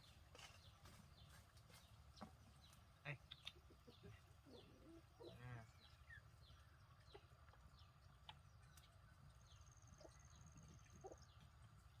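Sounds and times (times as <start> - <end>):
chickens chirping and clucking: 0.0 - 12.0.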